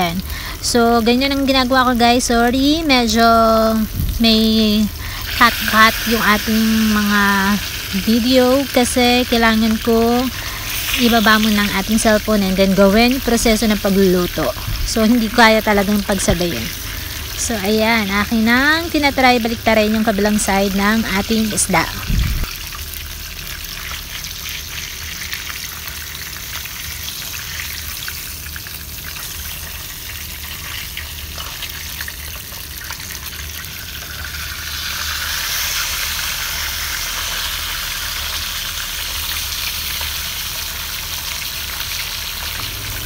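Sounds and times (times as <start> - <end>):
fish sizzling in hot oil: 0.0 - 43.0.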